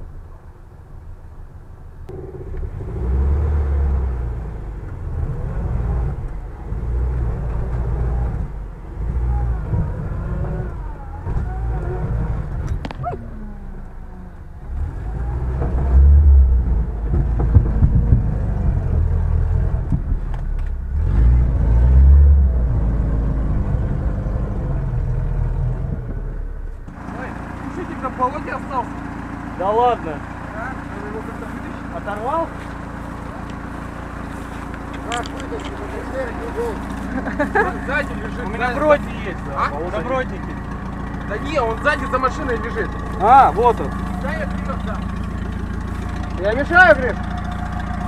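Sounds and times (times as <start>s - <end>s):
vehicle engine revving under load: 2.1s - 48.0s.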